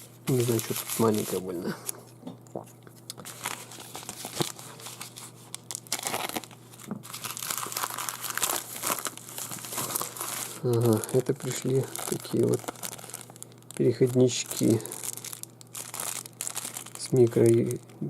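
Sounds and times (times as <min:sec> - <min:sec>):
parcel packaging torn and crinkled: 0:00.3 - 0:01.5, 0:03.0 - 0:18.0.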